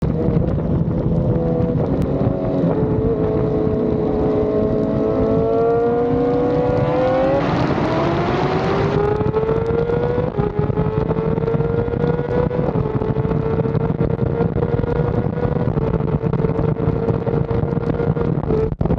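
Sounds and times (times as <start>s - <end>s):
motorcycle engine at high revs: 0.0s - 18.8s
loud rush of noise: 0.0s - 18.9s.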